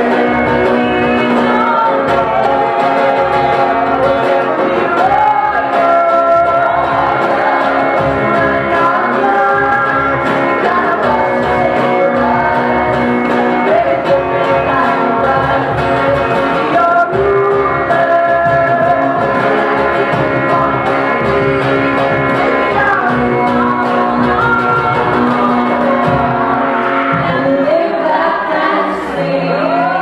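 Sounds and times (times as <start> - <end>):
cajon: 0.0 - 28.0
electric guitar: 0.0 - 30.0
group singing in harmony: 0.0 - 30.0.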